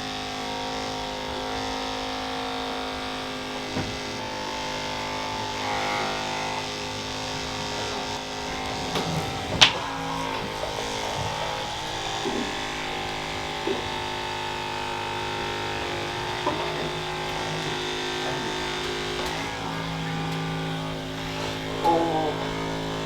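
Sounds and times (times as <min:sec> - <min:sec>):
electric massager motor buzzing: 0:00.0 - 0:23.0.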